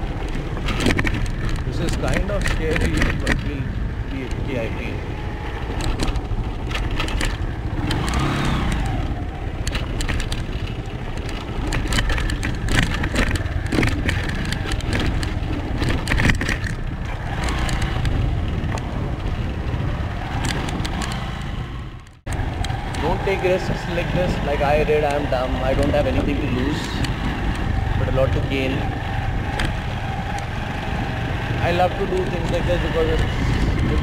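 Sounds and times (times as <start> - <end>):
knocks and rattles over bumps: 0.0 - 34.0
motorcycle engine running: 0.0 - 34.0.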